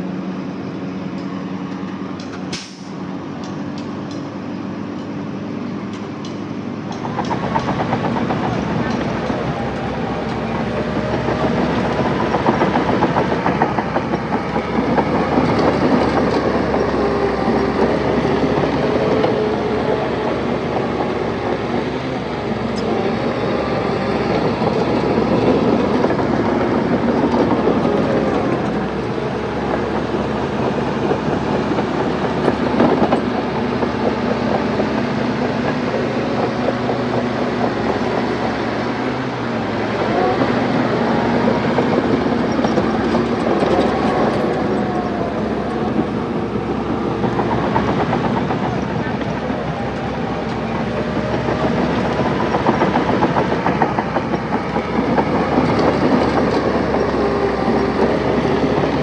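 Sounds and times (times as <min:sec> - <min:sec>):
diesel engine running: 0:00.0 - 0:59.0
steel tracks clattering: 0:00.4 - 0:59.0.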